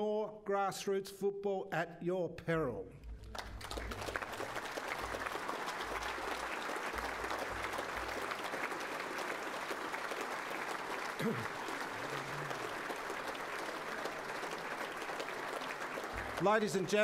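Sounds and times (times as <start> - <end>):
audience applauding: 3.2 - 17.0.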